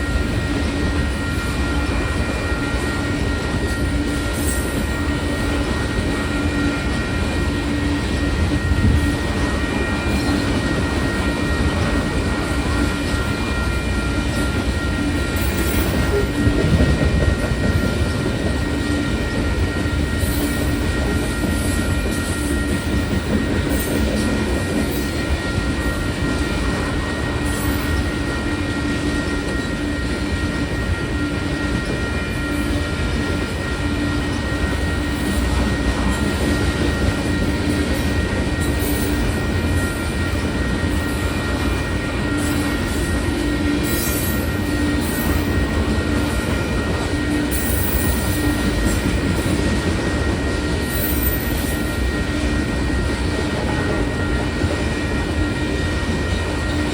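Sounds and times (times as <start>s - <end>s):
crossing bell ringing: 0.0s - 56.9s
train wheels rumbling on rails: 0.0s - 56.9s.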